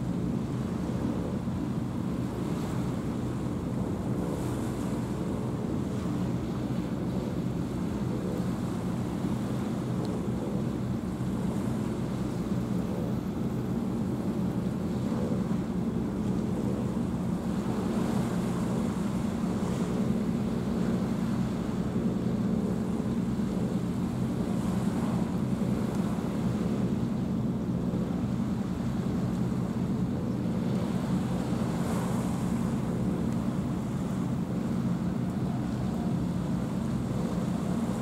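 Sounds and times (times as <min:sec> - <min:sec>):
ship engine droning: 0:00.0 - 0:38.0
waves washing: 0:00.0 - 0:38.0
wind on the microphone: 0:00.0 - 0:38.0.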